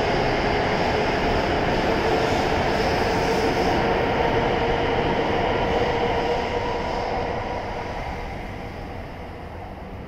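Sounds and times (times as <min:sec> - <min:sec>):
electric train running past: 0:00.0 - 0:10.0.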